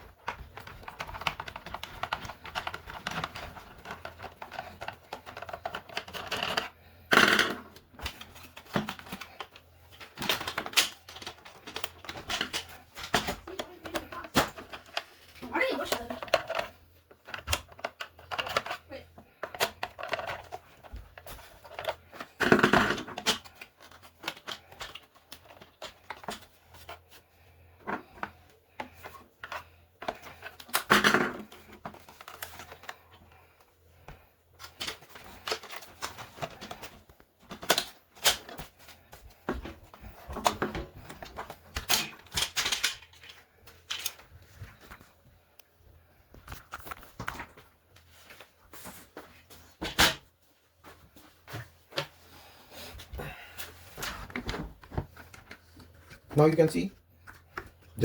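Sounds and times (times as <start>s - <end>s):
plastic parts clattering: 0.0s - 45.3s, 46.3s - 50.3s.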